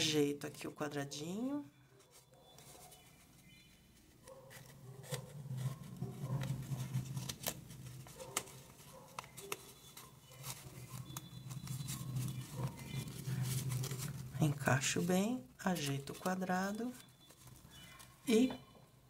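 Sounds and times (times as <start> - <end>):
paper rustling and clicking: 2.0 - 18.5.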